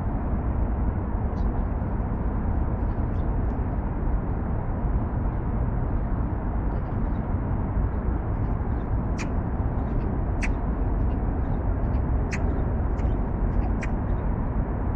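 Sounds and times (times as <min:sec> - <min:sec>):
city traffic rumble: 0:00.0 - 0:14.9.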